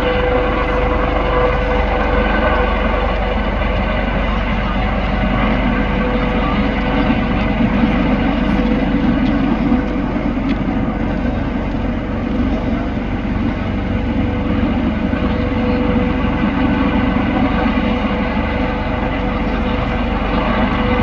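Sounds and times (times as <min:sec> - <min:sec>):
helicopter engine and rotors: 0:00.0 - 0:21.0.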